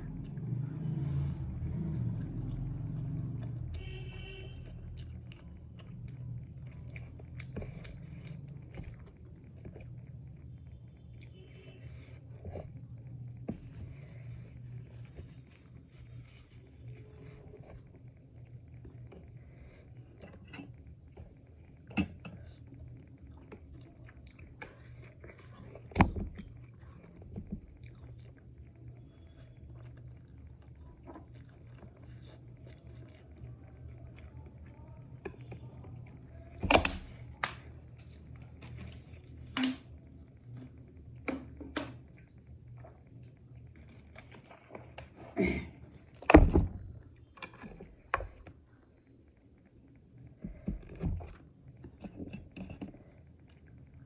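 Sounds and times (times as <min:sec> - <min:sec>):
person chewing food: 0:01.6 - 0:41.2, 0:42.0 - 0:54.0.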